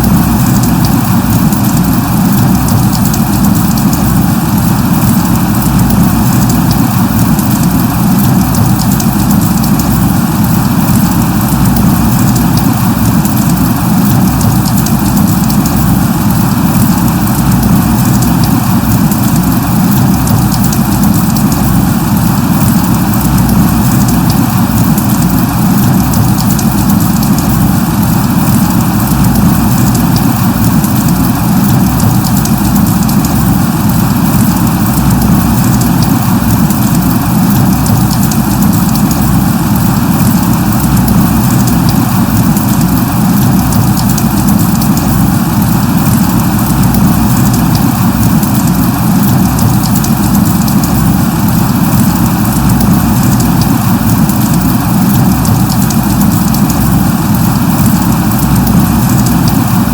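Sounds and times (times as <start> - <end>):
light rain falling: 0.0 - 59.9
raindrop ticks: 0.0 - 59.9.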